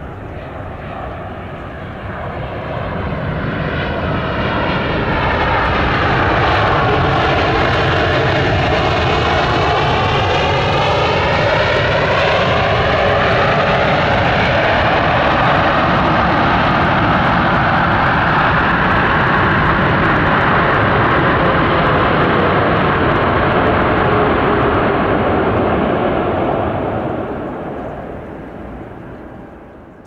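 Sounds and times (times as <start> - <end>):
jet engine rushing: 0.0 - 30.0.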